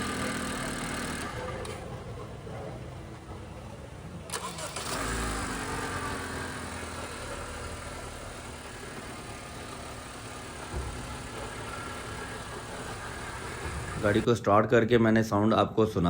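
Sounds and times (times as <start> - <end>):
car engine starting and idling: 0.0 - 14.3.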